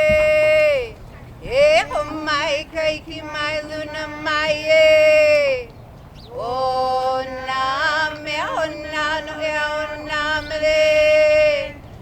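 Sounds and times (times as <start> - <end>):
ceremonial chanting in held tones: 0.0 - 5.7, 6.3 - 12.0.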